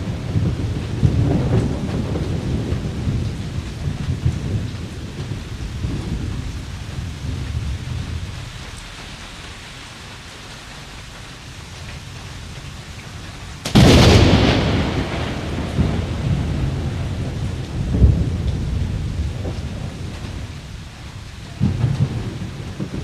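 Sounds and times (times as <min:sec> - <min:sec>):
thunder rumbling: 0:00.0 - 0:09.3, 0:11.5 - 0:23.0
steady rain: 0:00.0 - 0:23.0.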